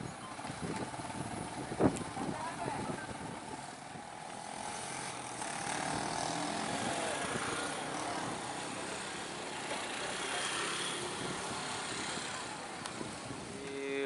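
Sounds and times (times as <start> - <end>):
truck diesel engine under load: 0.0 - 13.6.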